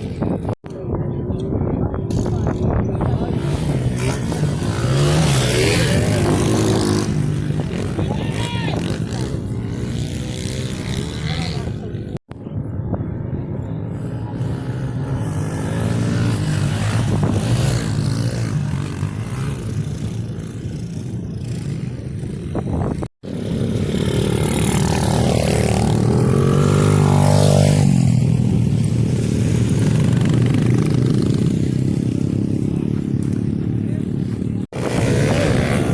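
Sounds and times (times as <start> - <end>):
pit bike engines revving: 0.0 - 12.2, 13.8 - 35.9.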